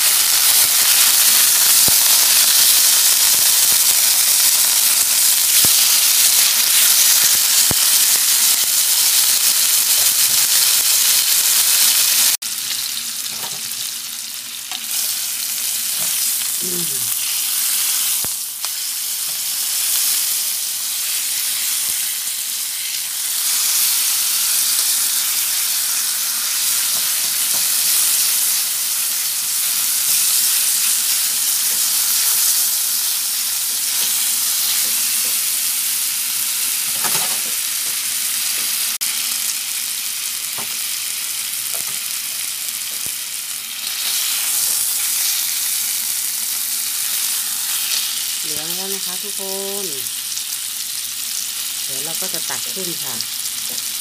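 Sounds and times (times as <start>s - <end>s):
pork sizzling in a pan: 0.0s - 54.0s.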